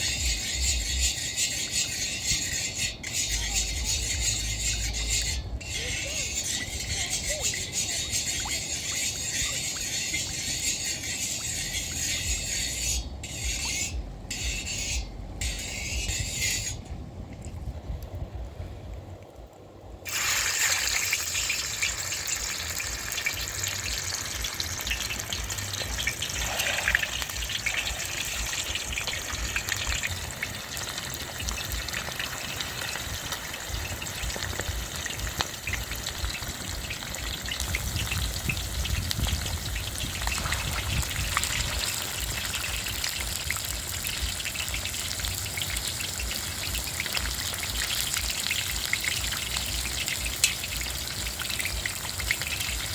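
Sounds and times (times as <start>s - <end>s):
fish sizzling in hot oil: 0.0s - 16.8s, 20.1s - 52.9s.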